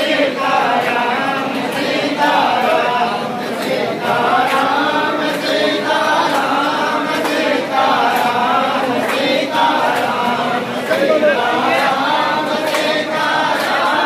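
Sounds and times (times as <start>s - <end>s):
voices chanting together: 0.0s - 14.0s.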